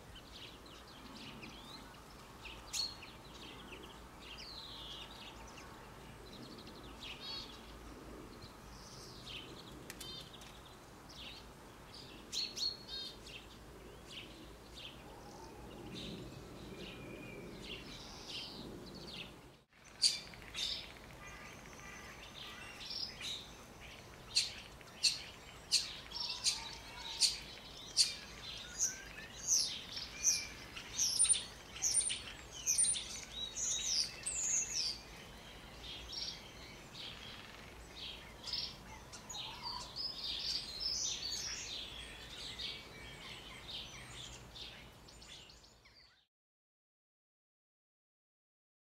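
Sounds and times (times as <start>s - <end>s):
songbirds chirping: 0.0s - 46.3s.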